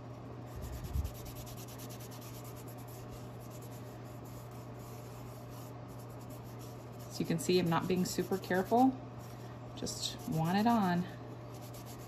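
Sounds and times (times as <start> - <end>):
steady low hum: 0.0 - 12.0
soft scrubbing on wood: 0.6 - 12.0.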